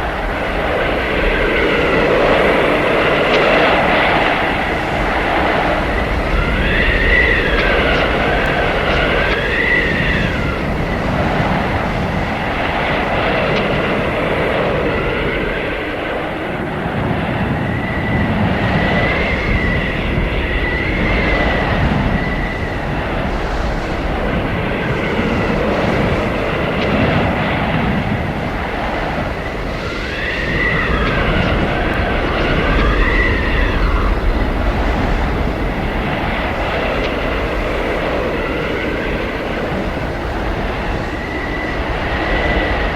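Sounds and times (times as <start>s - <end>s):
howling blizzard wind: 0.0s - 42.9s
wind whistling: 0.0s - 42.9s.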